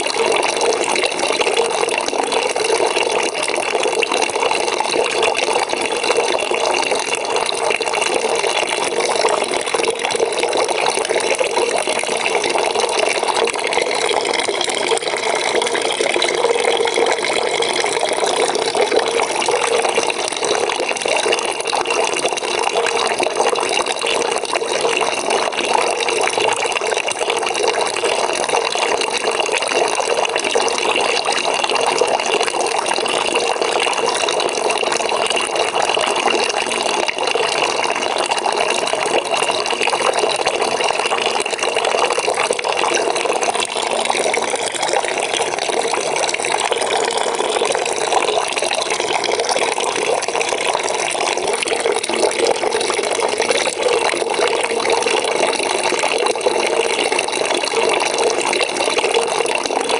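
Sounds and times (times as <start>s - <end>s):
water running into a bucket: 0.0s - 59.9s.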